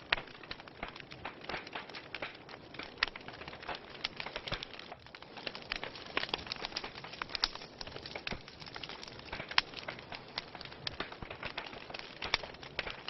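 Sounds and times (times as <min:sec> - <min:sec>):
hiss of burning logs: 0:00.0 - 0:13.0
wood fire crackling: 0:00.0 - 0:13.0.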